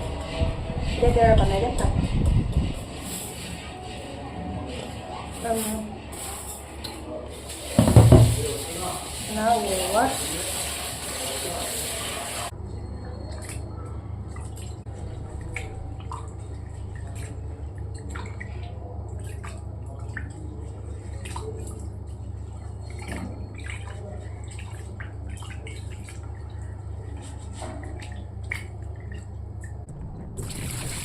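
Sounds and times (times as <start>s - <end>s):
water dripping and splashing: 1.0s - 31.0s.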